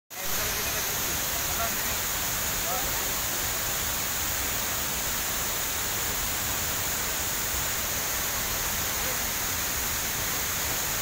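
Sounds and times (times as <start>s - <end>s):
waterfall rushing: 0.2s - 11.0s.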